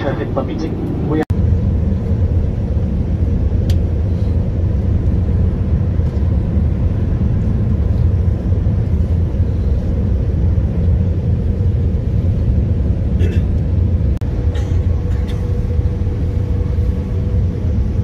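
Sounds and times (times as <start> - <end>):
jet engines rumbling: 0.0 - 18.0
rushing air: 0.8 - 18.0.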